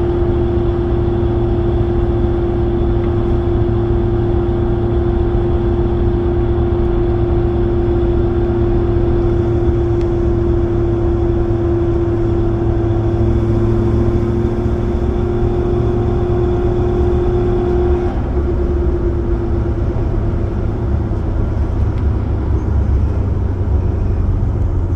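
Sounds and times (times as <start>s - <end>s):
road rumble: 0.0s - 24.9s
vehicle loud steady hum: 0.0s - 24.9s.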